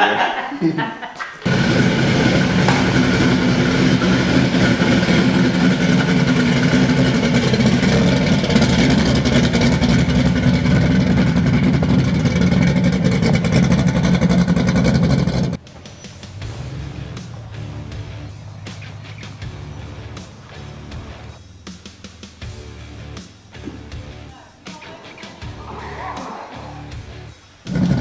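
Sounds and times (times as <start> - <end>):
loud car engine idling: 1.4 - 24.3, 26.8 - 28.0.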